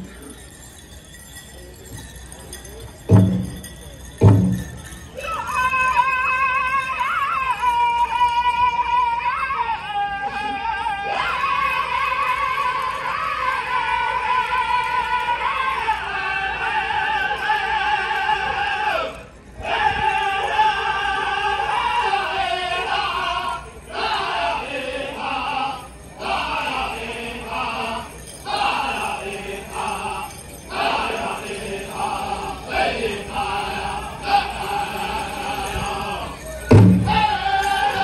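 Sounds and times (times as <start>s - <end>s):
high wavering group singing: 3.1s - 38.0s.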